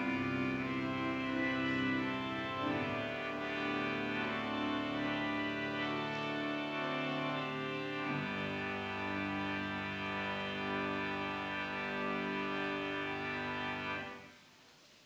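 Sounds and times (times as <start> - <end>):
church organ chords: 0.0 - 14.3.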